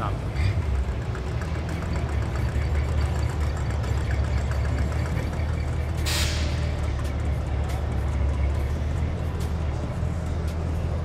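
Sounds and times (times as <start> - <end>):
car engine running at low speed: 0.0 - 11.0.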